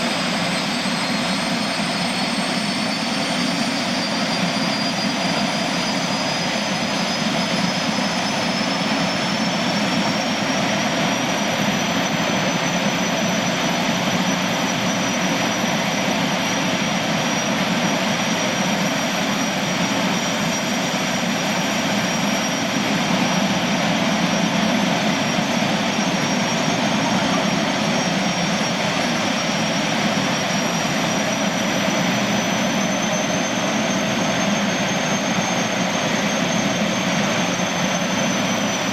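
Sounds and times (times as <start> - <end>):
gas turbines rushing and whining: 0.0 - 38.9.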